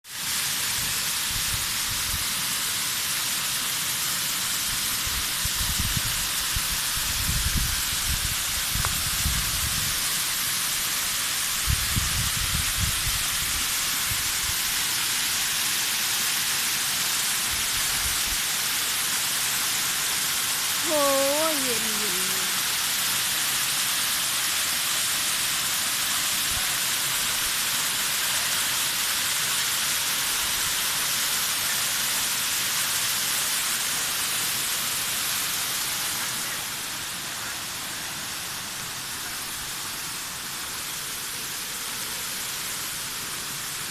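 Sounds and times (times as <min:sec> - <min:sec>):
waterfall rushing: 0:00.1 - 0:43.9.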